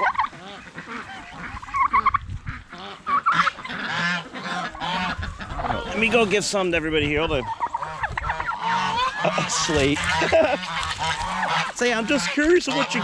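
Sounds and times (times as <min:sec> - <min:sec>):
geese honking: 0:00.0 - 0:13.0
other poultry: 0:00.0 - 0:13.0.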